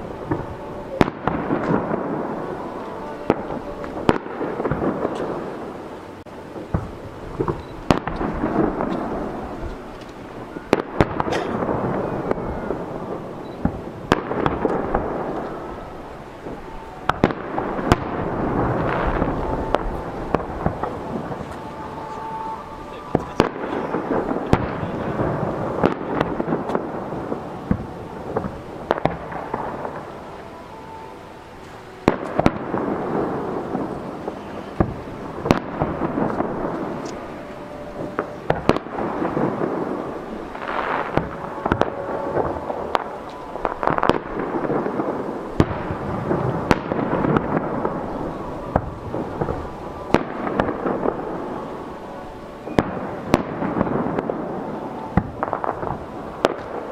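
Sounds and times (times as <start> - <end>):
firework crackle: 0.0 - 56.9
firework shells booming: 0.0 - 56.9
rumbling echoes: 0.0 - 56.9.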